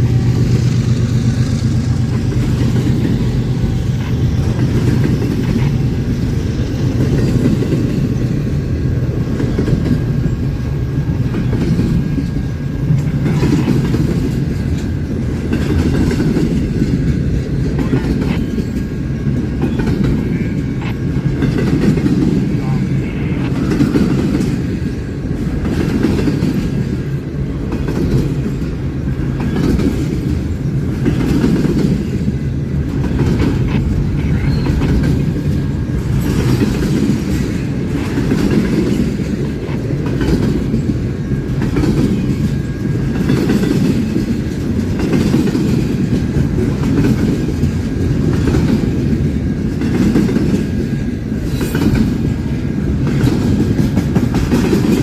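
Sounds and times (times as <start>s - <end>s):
train cars rumbling: 0.0s - 55.0s
wheels clicking over rail joints: 0.0s - 55.0s.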